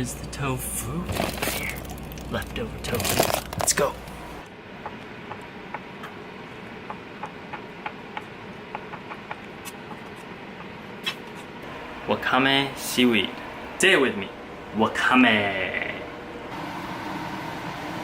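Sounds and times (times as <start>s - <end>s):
range hood fan hissing: 0.0s - 18.0s.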